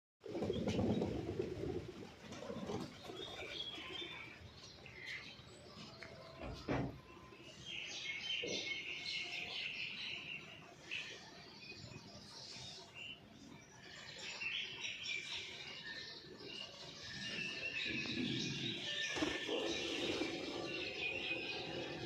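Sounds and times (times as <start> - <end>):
birds chirping: 0.3 - 22.0.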